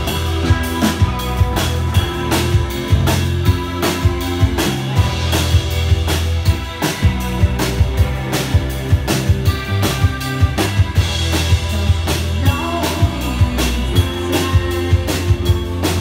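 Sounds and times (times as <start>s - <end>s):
drum kit beat: 0.0s - 16.0s
electric bass notes: 0.0s - 16.0s
guitar: 0.0s - 16.0s.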